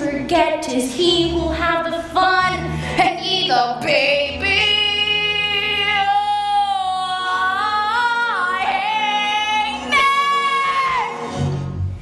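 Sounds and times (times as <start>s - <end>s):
woman singing with vibrato: 0.0s - 11.5s.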